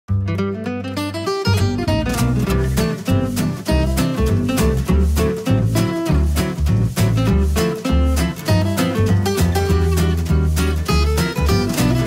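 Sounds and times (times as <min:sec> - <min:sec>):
plucked string melody with bass: 0:00.1 - 0:12.0.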